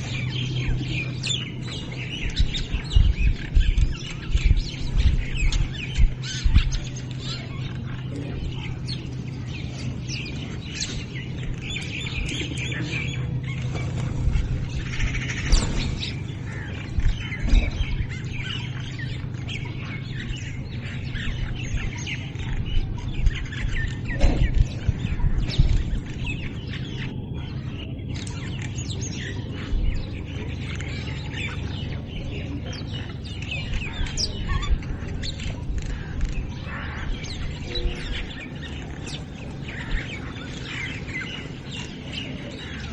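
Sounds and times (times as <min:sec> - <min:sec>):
low hum: 0:00.0 - 0:42.9
small birds chirping: 0:00.0 - 0:42.9.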